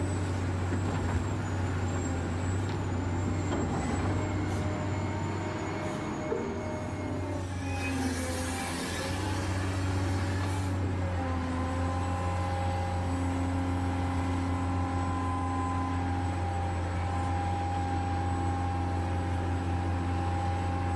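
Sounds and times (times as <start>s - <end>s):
hydraulic pump humming and whining: 0.0s - 20.9s.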